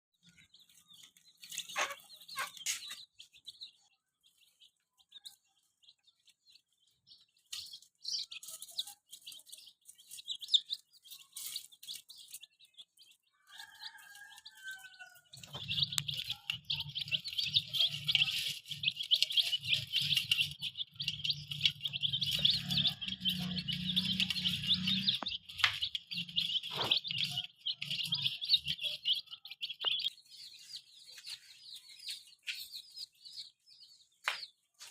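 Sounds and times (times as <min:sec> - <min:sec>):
baby chicks peeping: 0:00.1 - 0:34.9.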